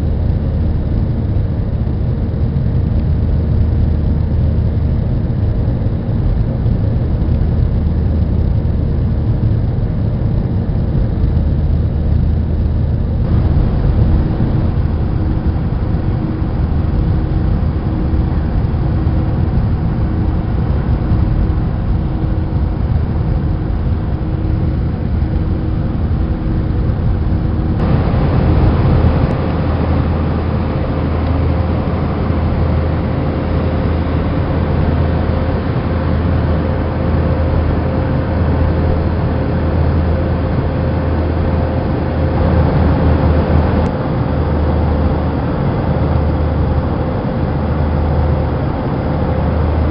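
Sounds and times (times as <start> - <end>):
faint steady hum: 0.0 - 49.9
jet engine rumble in cabin: 0.0 - 49.9.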